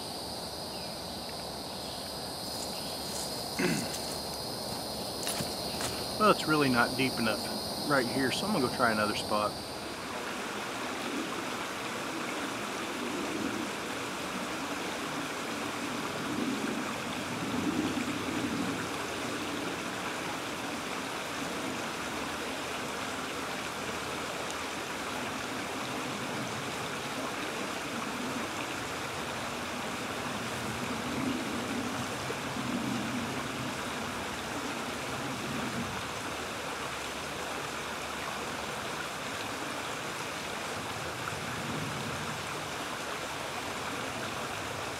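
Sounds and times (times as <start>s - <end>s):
creek water running over riffle: 0.0s - 44.9s.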